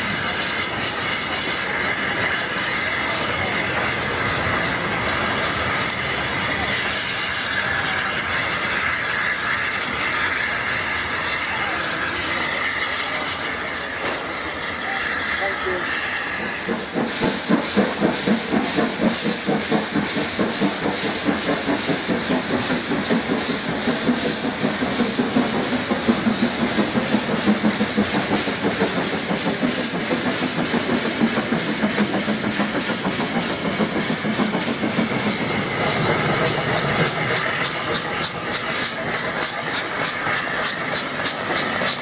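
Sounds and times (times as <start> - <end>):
steam locomotives chuffing: 0.0 - 42.0.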